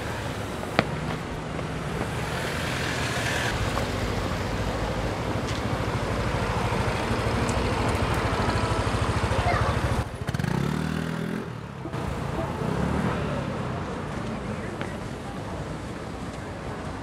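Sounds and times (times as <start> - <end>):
vehicle engine running close by: 0.0 - 14.8
city street traffic: 0.0 - 17.0.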